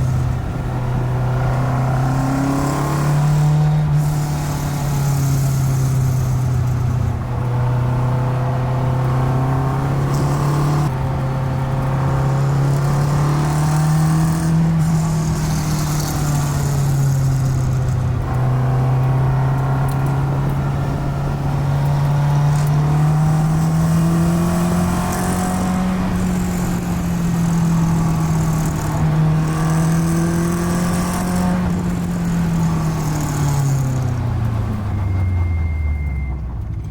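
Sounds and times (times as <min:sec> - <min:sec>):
car engine from inside cabin: 0:00.0 - 0:36.9.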